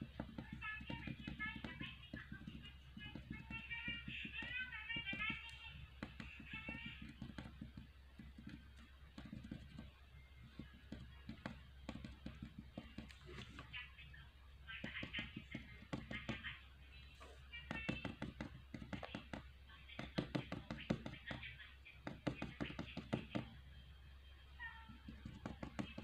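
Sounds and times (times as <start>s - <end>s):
taps and clicks: 0.0s - 13.7s, 14.8s - 16.6s, 17.6s - 23.6s, 24.9s - 26.0s
crayon scratching on paper: 0.0s - 13.8s, 14.7s - 16.6s, 17.6s - 23.6s, 24.8s - 26.0s.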